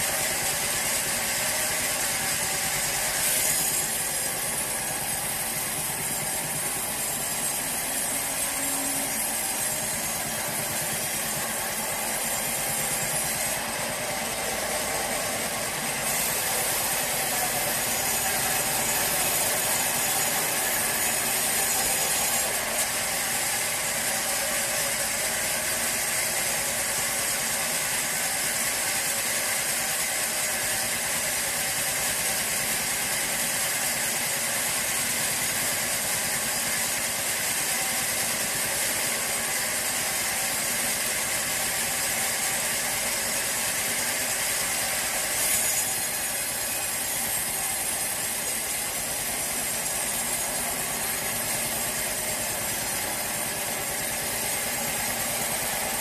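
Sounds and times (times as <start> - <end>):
sawmill machinery motor drone: 0.0 - 56.0.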